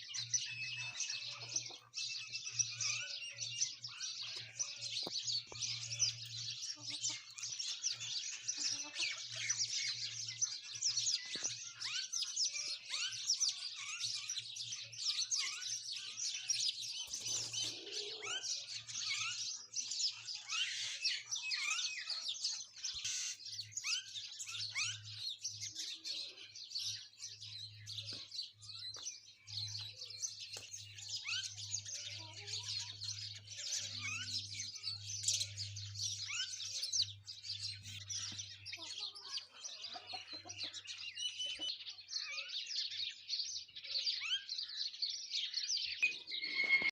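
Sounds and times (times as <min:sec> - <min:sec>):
birds chirping in chorus: 0:00.0 - 0:46.9.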